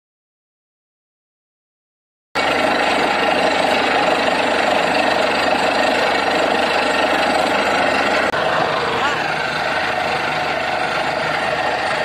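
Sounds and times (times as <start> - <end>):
drilling rig engine and hammer: 2.4 - 12.0.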